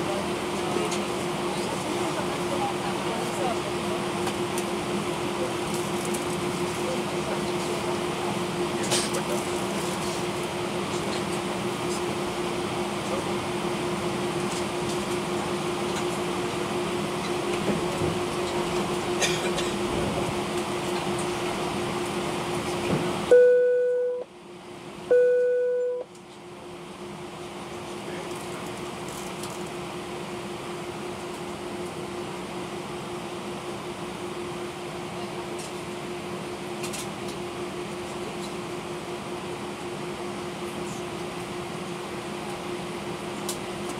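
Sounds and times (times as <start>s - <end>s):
aircraft cabin engine and airflow noise: 0.0s - 43.9s.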